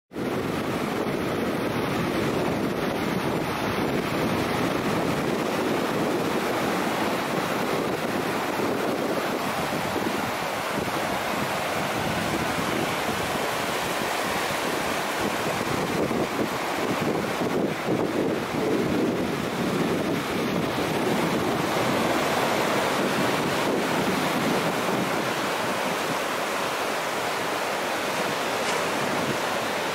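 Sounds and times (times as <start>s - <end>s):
river water rushing over rapids: 0.2s - 29.9s.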